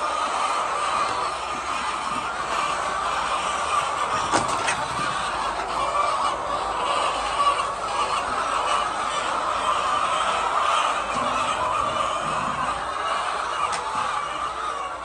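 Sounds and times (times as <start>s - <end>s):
hens calling: 0.0s - 15.0s.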